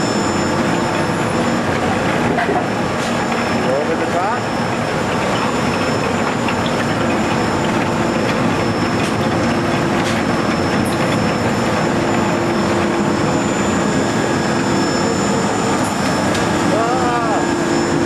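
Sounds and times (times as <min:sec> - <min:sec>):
machinery running with hum and whine: 0:00.0 - 0:18.0.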